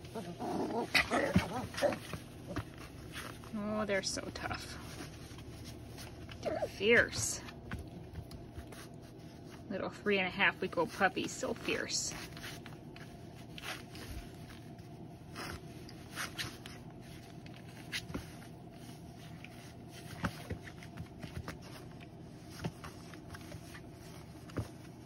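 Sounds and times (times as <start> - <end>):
puppies scuffling on blanket: 0.0 - 25.0.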